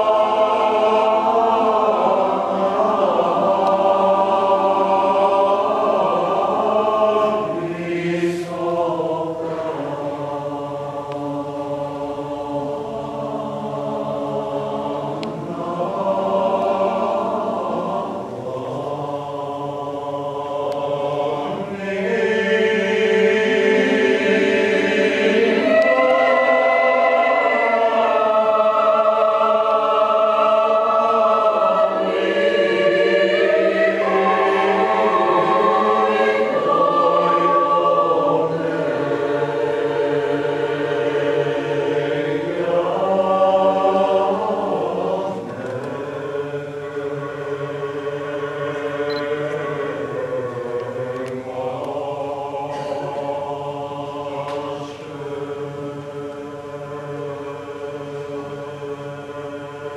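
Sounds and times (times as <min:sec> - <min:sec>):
mixed choir singing a cappella: 0:00.0 - 0:59.9.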